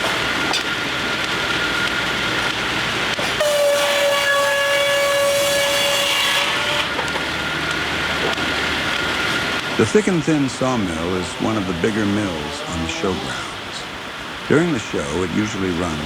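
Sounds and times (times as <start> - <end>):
steam whistle blowing: 0.0 - 13.8
sawmill machinery running: 0.0 - 16.0.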